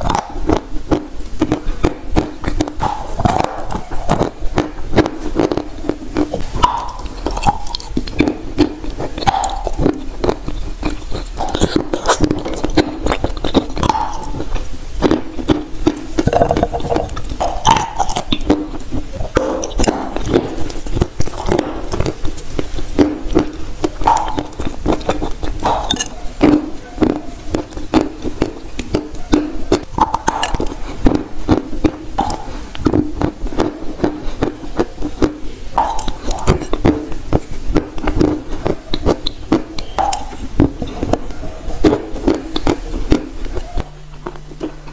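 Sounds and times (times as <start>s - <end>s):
crunchy chewing: 0.0s - 44.9s
mouth sounds: 0.0s - 44.9s.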